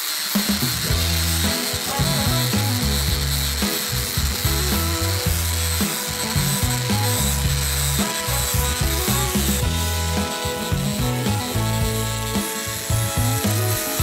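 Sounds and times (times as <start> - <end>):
angle grinder sanding wood: 0.0 - 14.0
background music with bass line: 0.4 - 14.0.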